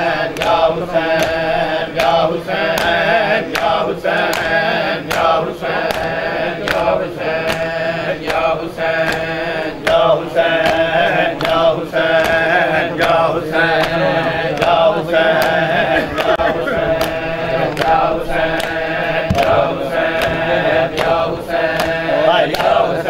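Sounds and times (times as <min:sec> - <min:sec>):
men chanting: 0:00.0 - 0:23.0
hands slapping bare chests: 0:02.0 - 0:13.2, 0:15.4 - 0:22.8.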